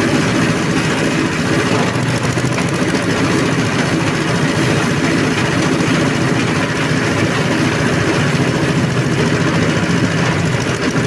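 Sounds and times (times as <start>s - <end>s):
grass chopper machine drone: 0.0s - 11.0s.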